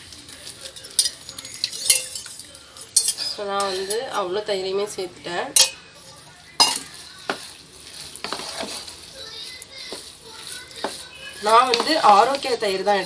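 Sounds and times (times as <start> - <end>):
wet stirring in a pot: 0.0 - 13.0.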